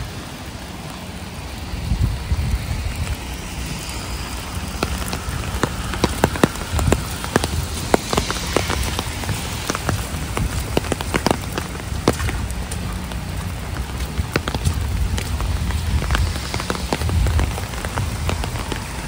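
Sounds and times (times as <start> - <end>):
heavy raindrops ticking: 0.0 - 19.0
low rumble: 0.0 - 19.0
rain falling: 0.0 - 19.0.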